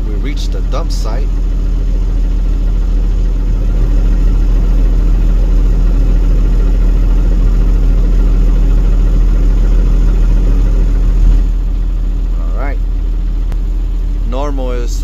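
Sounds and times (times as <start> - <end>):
garbage truck engine droning: 0.0 - 15.0.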